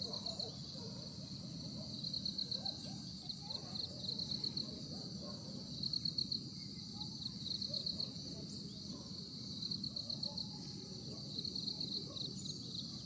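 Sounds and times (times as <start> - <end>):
insects chirping in pulsed trills: 0.0 - 13.0.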